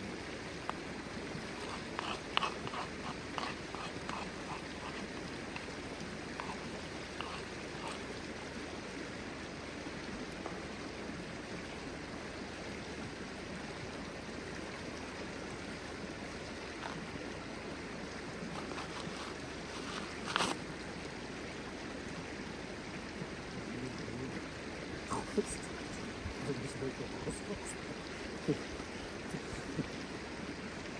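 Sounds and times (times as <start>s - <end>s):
stream flowing: 0.0s - 30.9s.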